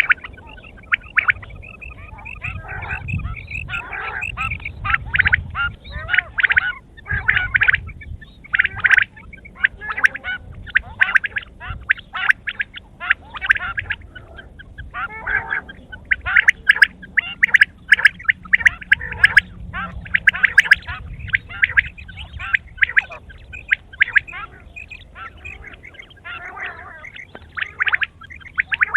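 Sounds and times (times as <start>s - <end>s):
quail chattering calls: 0.0s - 28.9s
steady low rumble: 0.0s - 28.9s.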